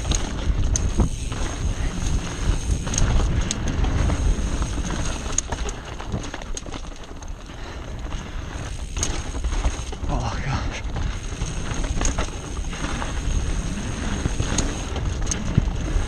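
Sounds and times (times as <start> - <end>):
bike rattling: 0.0 - 16.0
tyres on dirt: 0.0 - 16.0.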